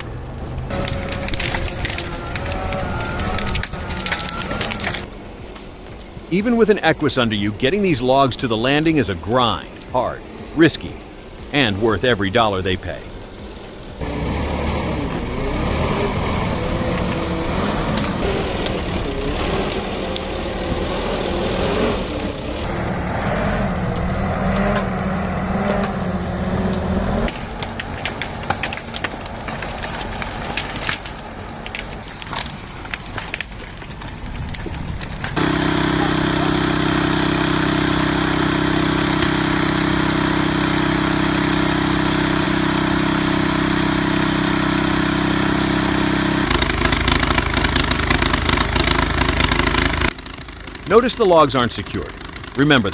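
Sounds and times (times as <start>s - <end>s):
heavy machine engines running: 0.0s - 52.9s
steady engine drone: 0.0s - 52.9s.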